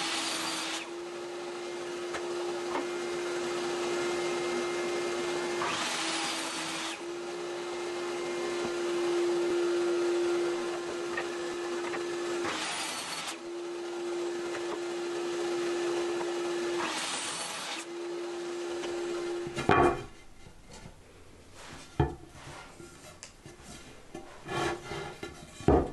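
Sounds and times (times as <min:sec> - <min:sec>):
saw cutting wood: 0:00.0 - 0:20.2, 0:22.5 - 0:25.9.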